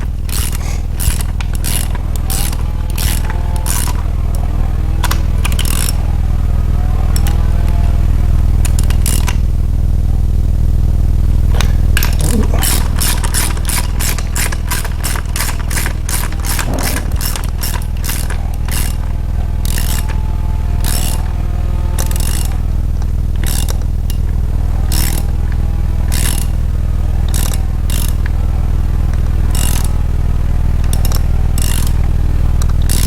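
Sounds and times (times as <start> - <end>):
ratchet wrench clicking: 0.0 - 4.4, 5.0 - 6.2, 7.1 - 7.4, 8.6 - 9.5, 11.6 - 33.0
low machine drone: 0.0 - 33.0.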